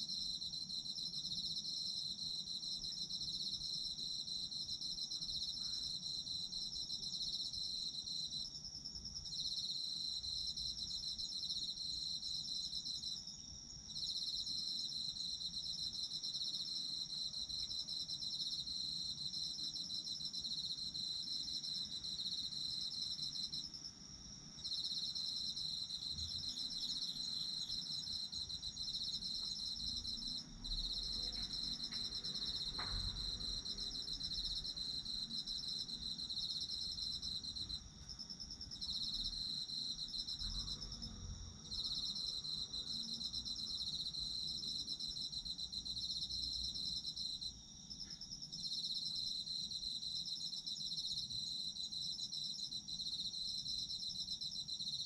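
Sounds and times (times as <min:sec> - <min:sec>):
crickets trilling: 0:09.2 - 0:55.0.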